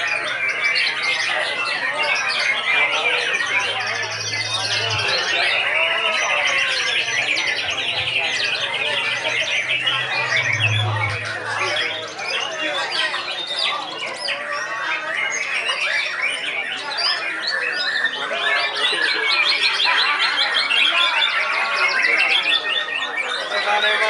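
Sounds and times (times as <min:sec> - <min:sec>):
songbirds singing in chorus: 0:00.0 - 0:24.0.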